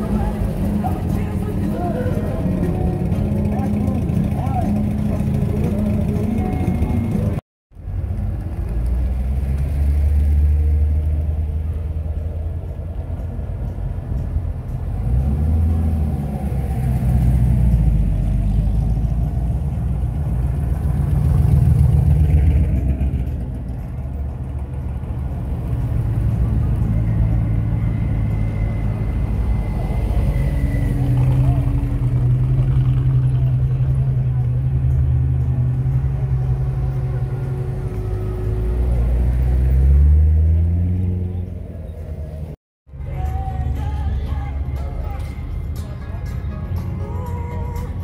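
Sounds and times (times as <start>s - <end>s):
car engine rumbling: 0.0s - 48.0s.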